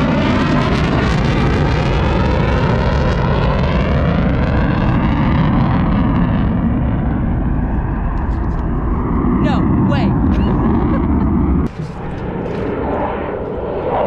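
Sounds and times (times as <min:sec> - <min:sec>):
jet passing by: 0:00.0 - 0:14.0.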